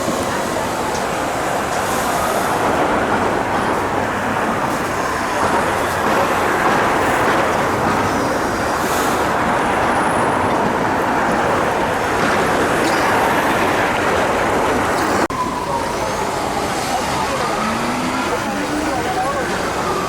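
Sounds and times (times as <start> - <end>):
dense city street traffic: 0.0 - 20.0.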